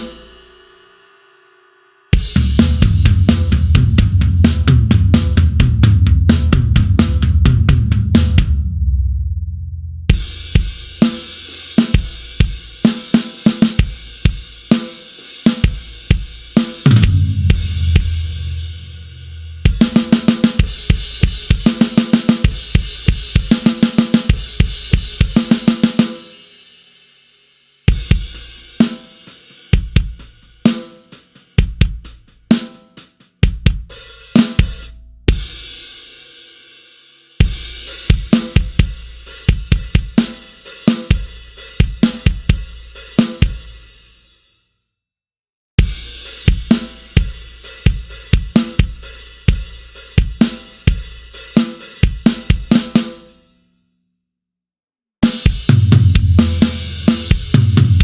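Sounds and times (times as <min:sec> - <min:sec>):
fast drum roll: 0:00.0 - 0:00.6, 0:02.1 - 0:08.8, 0:10.1 - 0:26.3, 0:27.9 - 0:32.7, 0:33.3 - 0:36.0, 0:37.4 - 0:43.9, 0:45.8 - 0:53.3, 0:55.2 - 0:58.0
rock drum kit playing: 0:00.0 - 0:00.6, 0:02.1 - 0:09.2, 0:10.1 - 0:26.4, 0:27.9 - 0:36.0, 0:37.4 - 0:44.0, 0:45.8 - 0:53.3, 0:55.2 - 0:58.0.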